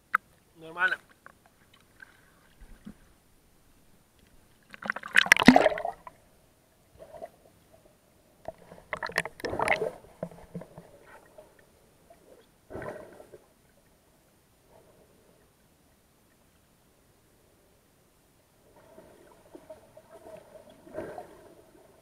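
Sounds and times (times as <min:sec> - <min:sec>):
water gurgling and sloshing: 0:01.2 - 0:16.5, 0:18.6 - 0:22.0.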